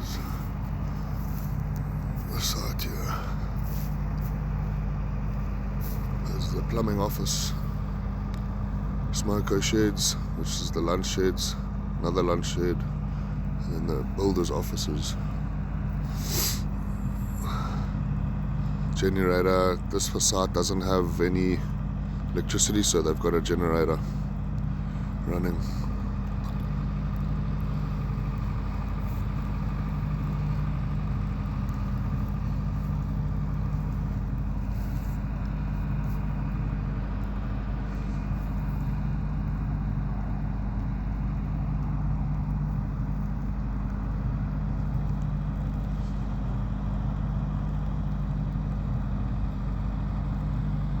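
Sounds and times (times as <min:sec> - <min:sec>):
generator engine humming: 0:00.0 - 0:51.0.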